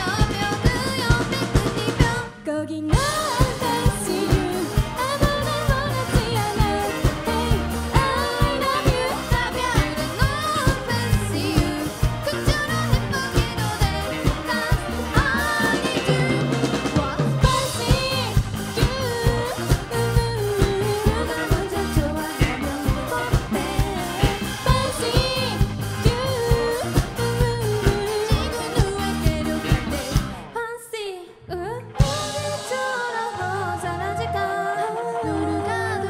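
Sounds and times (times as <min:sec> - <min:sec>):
person singing: 0:00.0 - 0:36.0
pop-rock band playing live: 0:00.0 - 0:36.0.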